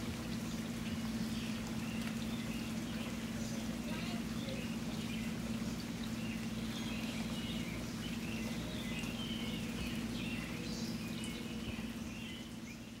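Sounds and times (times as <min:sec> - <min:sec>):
birds chirping: 0:00.0 - 0:13.0
low steady hum: 0:00.0 - 0:13.0
steady rainfall: 0:00.0 - 0:13.0.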